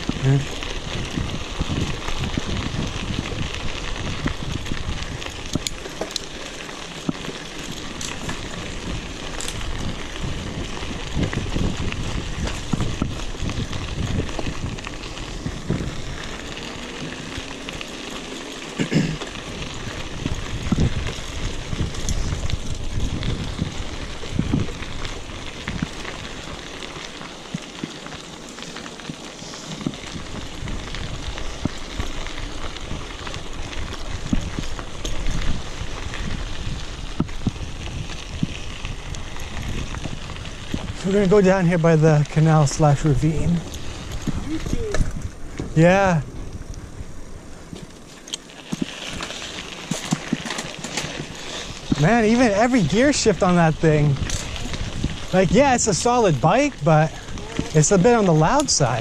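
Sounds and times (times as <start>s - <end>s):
bike rattling: 0.0s - 59.0s
bike tyres on dirt: 0.0s - 59.0s.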